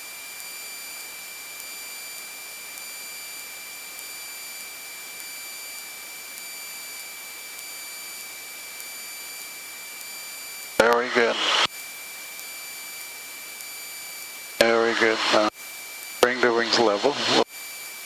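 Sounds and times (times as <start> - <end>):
intercom hiss with high whine: 0.4 - 18.0.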